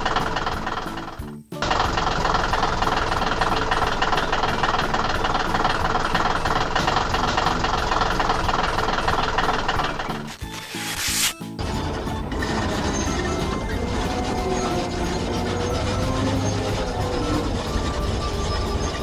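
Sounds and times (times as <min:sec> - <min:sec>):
machine engine running: 0:00.0 - 0:19.0.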